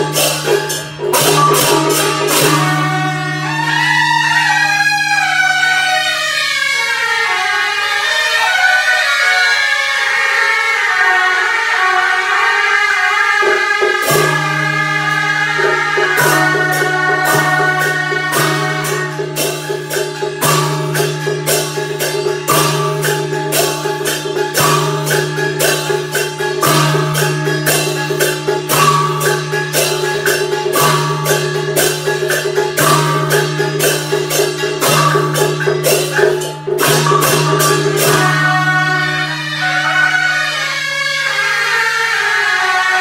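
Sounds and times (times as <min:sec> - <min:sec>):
music with percussion and bass: 0:00.0 - 0:07.6, 0:13.2 - 0:41.8.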